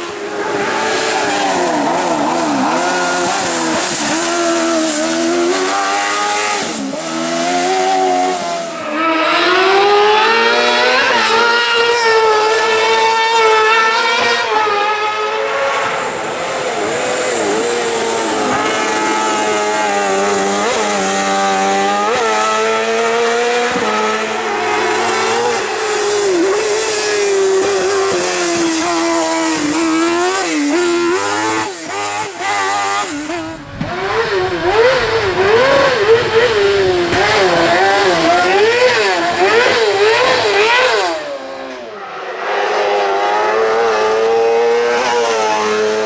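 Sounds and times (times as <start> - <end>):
buggy engine at full throttle: 0.0 - 46.0.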